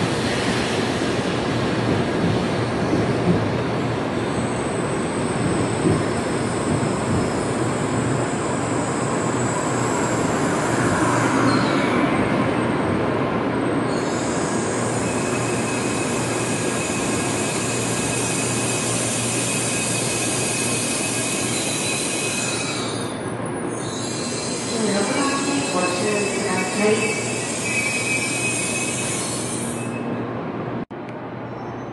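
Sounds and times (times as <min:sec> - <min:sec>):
train running noise: 0:00.0 - 0:30.8.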